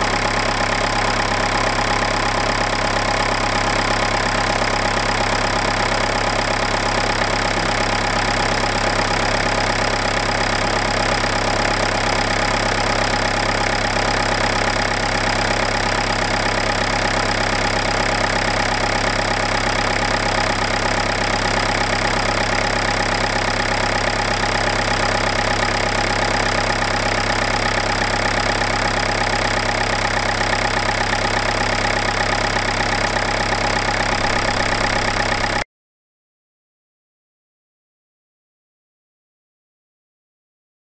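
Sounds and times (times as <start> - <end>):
diesel engine idling: 0.0 - 35.6.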